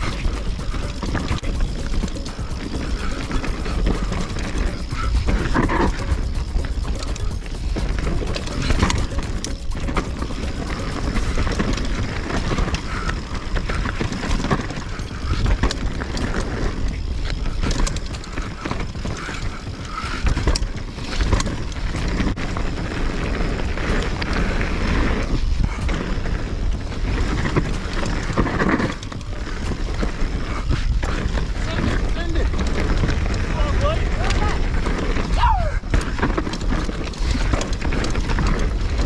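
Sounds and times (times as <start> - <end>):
bike clicks and rattles: 0.0 - 39.0
tyres rumbling on dirt: 0.0 - 39.0
wind on microphone: 0.0 - 39.0.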